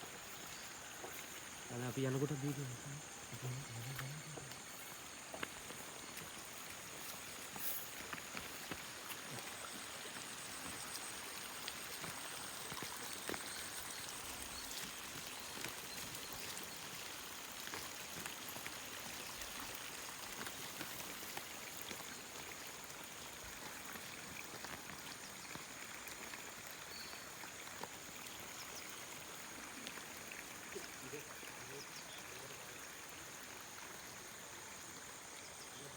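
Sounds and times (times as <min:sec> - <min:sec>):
running water rushing: 0:00.0 - 0:35.9.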